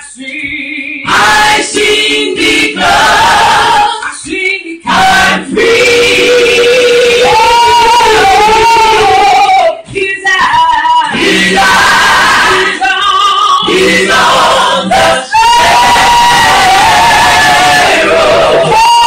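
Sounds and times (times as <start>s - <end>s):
person singing gospel song: 0.0s - 19.0s
voices joining in singing: 0.0s - 19.0s.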